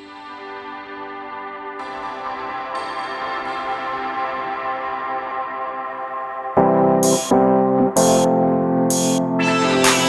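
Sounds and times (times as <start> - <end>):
soft ambient synthesizer chords: 0.0 - 10.0.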